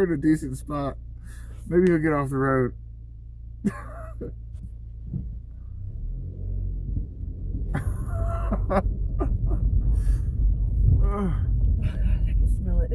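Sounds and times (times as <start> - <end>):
vehicle engine idling: 0.0 - 12.9.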